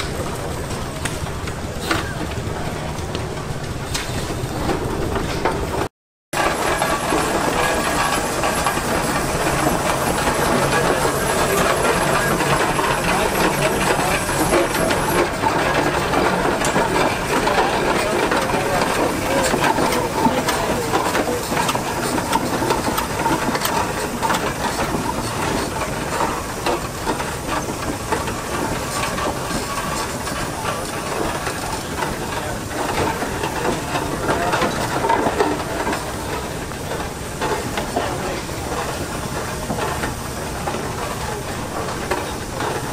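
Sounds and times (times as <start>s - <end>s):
steam engine clattering: 0.0s - 42.9s
steam hissing: 6.4s - 42.9s.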